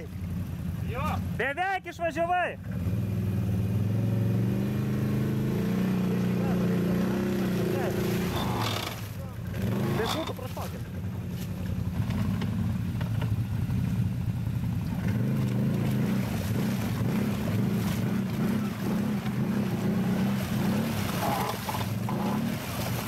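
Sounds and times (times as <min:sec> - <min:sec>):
atv engine at high revs: 0:02.6 - 0:11.0, 0:11.6 - 0:23.0
wheels churning through mud: 0:02.6 - 0:23.0.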